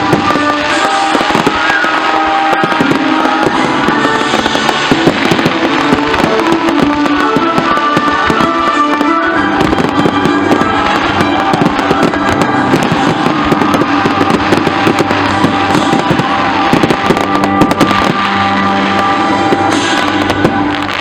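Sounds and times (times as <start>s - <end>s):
fireworks cracking and popping: 0.0s - 21.0s
loud music: 0.0s - 21.0s.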